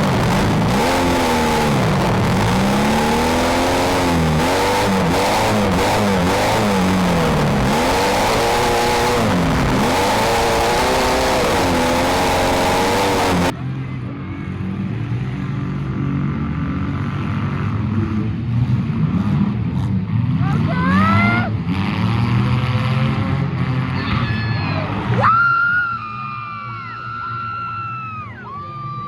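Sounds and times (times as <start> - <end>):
car engine running steadily: 0.0 - 25.3
car engines revving hard: 0.0 - 25.4.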